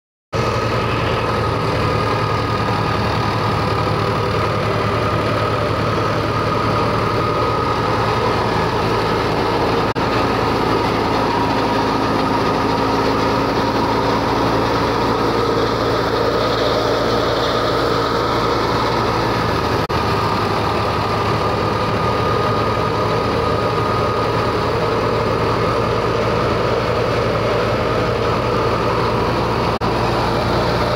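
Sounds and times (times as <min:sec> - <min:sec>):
tractor diesel engine running: 0:00.3 - 0:30.9
grain thresher running: 0:00.4 - 0:30.9.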